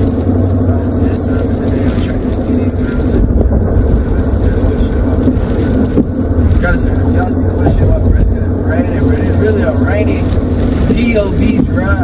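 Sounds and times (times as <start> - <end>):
heavy rain: 0.0 - 12.0
road and engine rumble: 0.0 - 12.0
tyres on wet pavement: 0.0 - 12.0.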